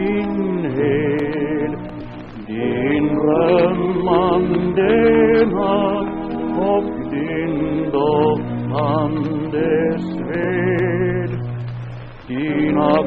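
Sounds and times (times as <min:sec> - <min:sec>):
low sustained accompaniment: 0:00.0 - 0:13.0
person singing folk song: 0:00.0 - 0:13.0.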